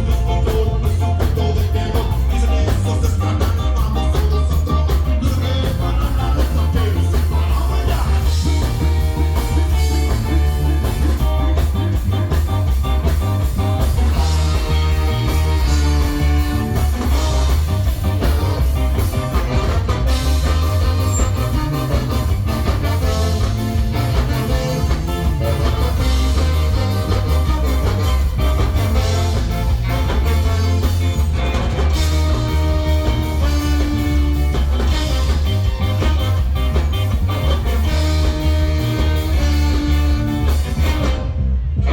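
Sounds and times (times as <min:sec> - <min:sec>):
ska band playing live: 0:00.0 - 0:41.9
steady bass line: 0:00.0 - 0:41.9.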